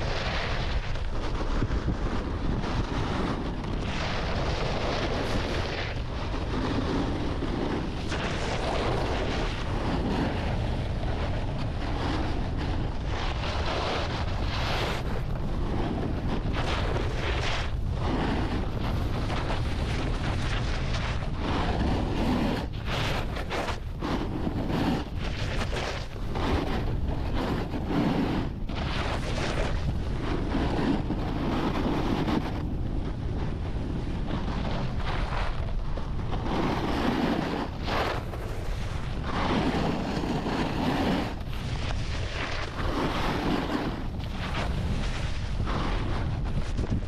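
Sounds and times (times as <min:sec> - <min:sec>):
snowboard edges scraping snow: 0:00.0 - 0:47.0
wind rushing over microphone: 0:00.0 - 0:47.0.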